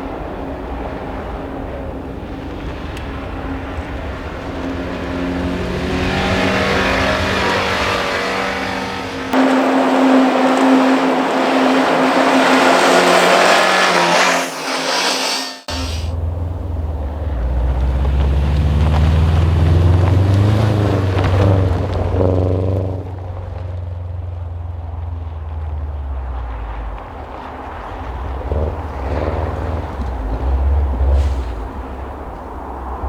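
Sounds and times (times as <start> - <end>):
rally car engine revving: 0.1 - 33.0.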